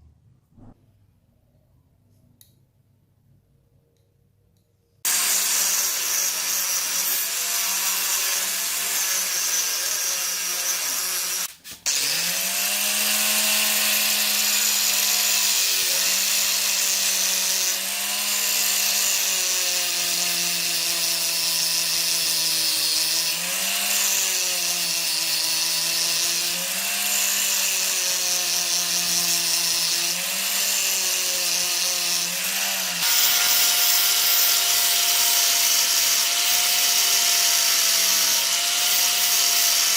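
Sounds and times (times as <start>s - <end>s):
power tool grinding metal: 5.0s - 39.9s.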